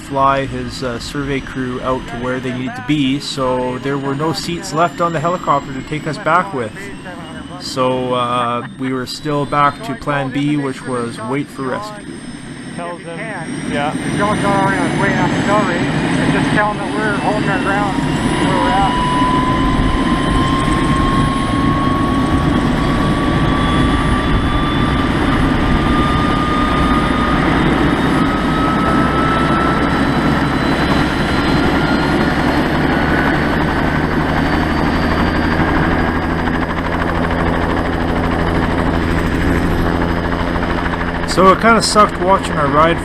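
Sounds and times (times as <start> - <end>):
helicopter rotor and engine noise: 0.0 - 43.0
helicopter turbine whine: 0.0 - 43.0.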